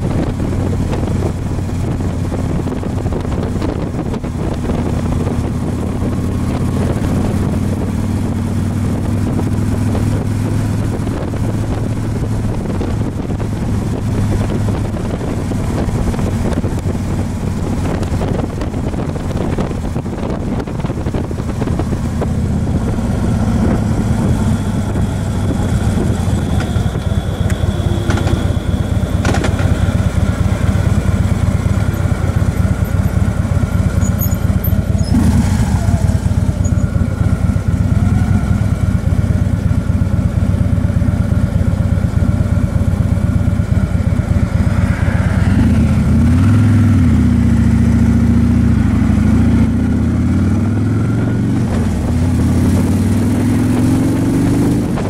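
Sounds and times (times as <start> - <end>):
wind noise: 0.0 - 40.2, 41.2 - 55.0
motorcycle engine running: 0.0 - 55.0
road noise: 0.0 - 55.0.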